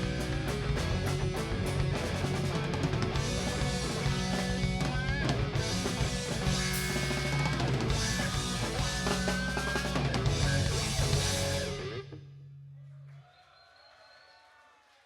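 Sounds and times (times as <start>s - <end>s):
drum kit: 0.0s - 12.1s
lead guitar bending notes: 0.0s - 12.3s
electric guitars: 0.0s - 12.4s
bass guitar: 0.0s - 12.8s.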